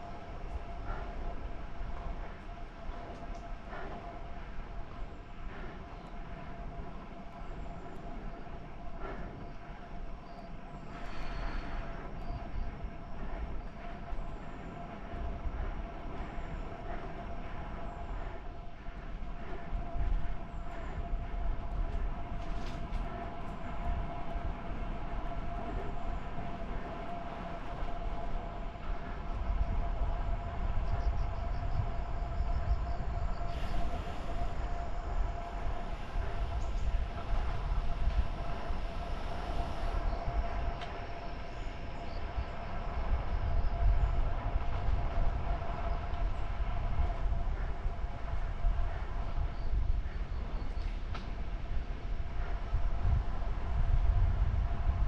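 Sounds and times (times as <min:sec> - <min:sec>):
constant whine: 0:00.0 - 0:55.0
wind buffeting microphone: 0:00.0 - 0:55.0.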